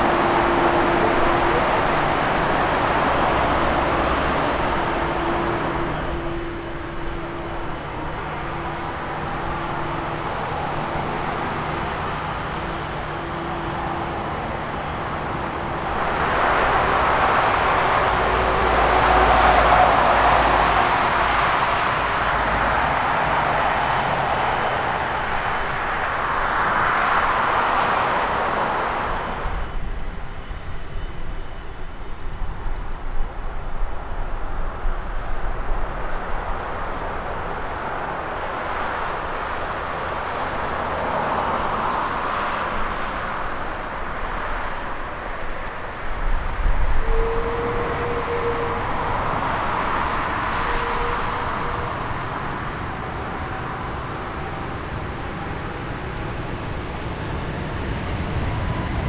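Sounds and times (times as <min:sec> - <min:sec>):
jet engines taxiing: 0:00.0 - 0:59.0.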